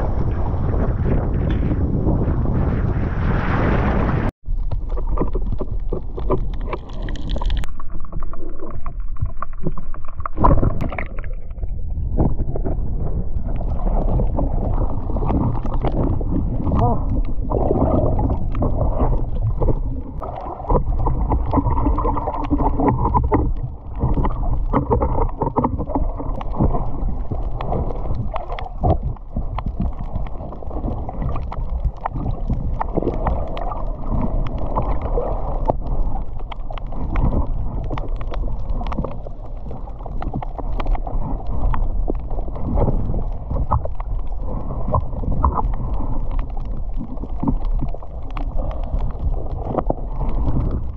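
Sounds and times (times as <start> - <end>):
muffled water sloshing and gurgling: 0.0 - 50.9.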